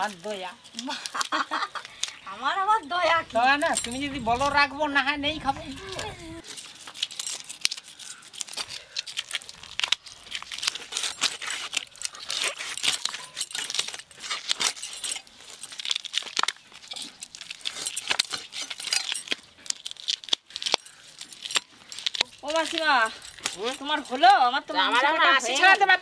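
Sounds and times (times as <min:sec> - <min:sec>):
bangles jingling: 0:00.0 - 0:26.0.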